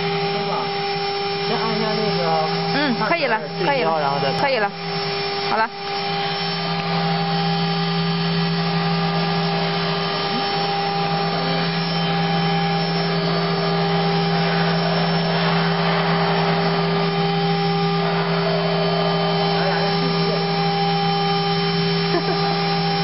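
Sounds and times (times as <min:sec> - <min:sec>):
bit cutting foam: 0:00.0 - 0:23.0
router spindle hum and whine: 0:00.0 - 0:23.0.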